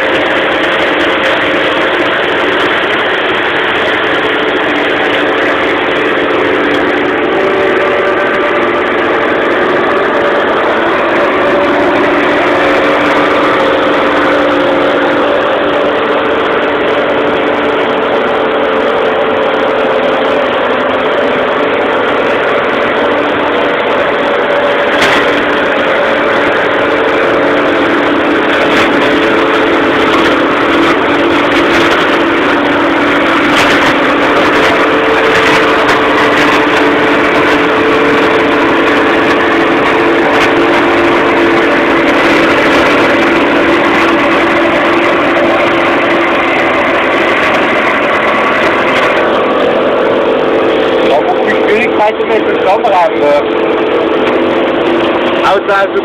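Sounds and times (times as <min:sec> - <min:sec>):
hedge mower whirring: 0:00.0 - 0:56.0
tractor engine running: 0:00.0 - 0:56.0.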